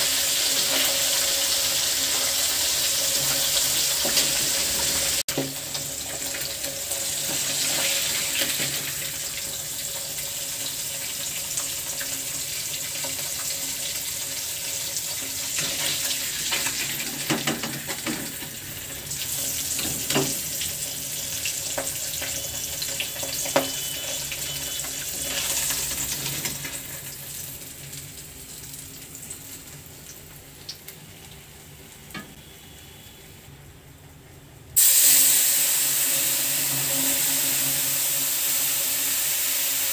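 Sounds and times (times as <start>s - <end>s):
fish sizzling in hot oil: 0.0s - 33.2s, 34.8s - 39.9s.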